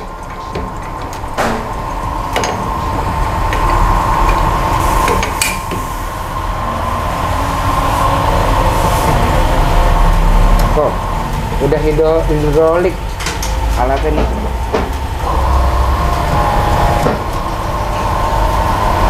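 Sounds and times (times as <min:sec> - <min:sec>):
hydraulic press whine and hum: 0:00.0 - 0:19.0.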